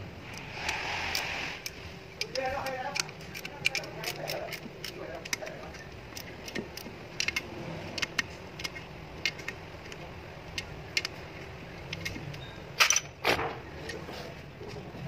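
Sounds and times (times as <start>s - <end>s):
ratchet wrench clicking: 0.2s - 13.1s.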